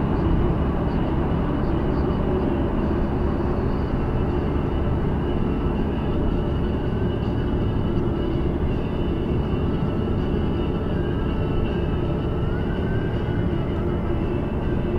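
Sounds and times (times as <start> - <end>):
engine drone: 0.0 - 14.9.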